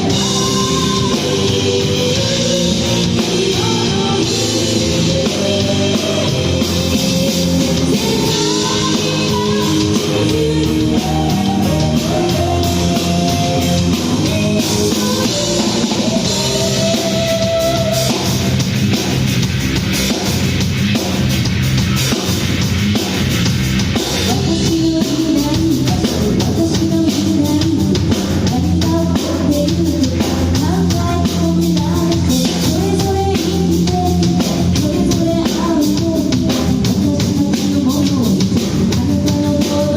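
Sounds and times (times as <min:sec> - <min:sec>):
person singing: 0:00.0 - 0:18.4, 0:24.2 - 0:39.9
rock band playing live: 0:00.0 - 0:39.9.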